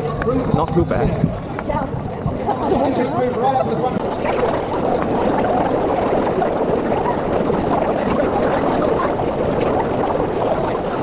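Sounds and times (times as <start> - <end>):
crowd talking: 0.0 - 11.0.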